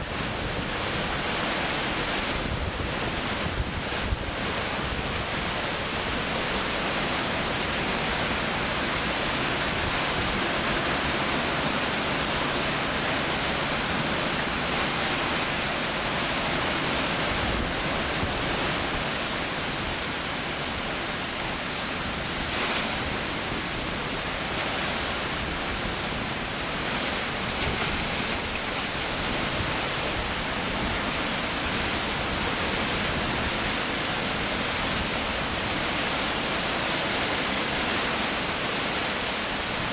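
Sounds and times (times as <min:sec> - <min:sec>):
heavy rain: 0:00.0 - 0:39.9
hurricane wind: 0:00.0 - 0:39.9.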